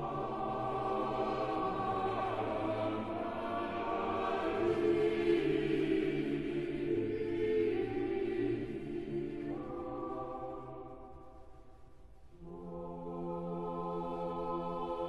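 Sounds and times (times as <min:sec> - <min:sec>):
choir singing sacred music: 0:00.0 - 0:15.0.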